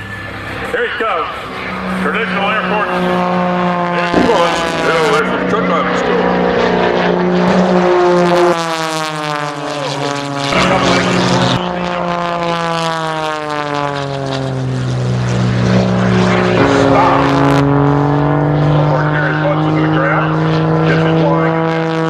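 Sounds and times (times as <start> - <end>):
propeller airplane engine: 0.0 - 22.0.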